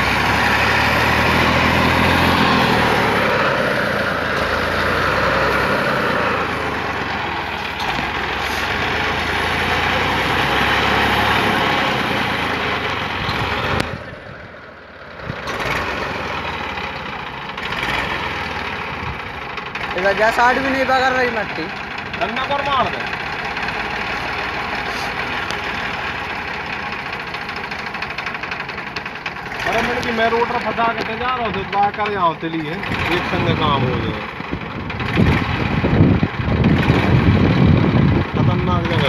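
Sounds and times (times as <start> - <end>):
tractor diesel engine revving: 0.0 - 39.0.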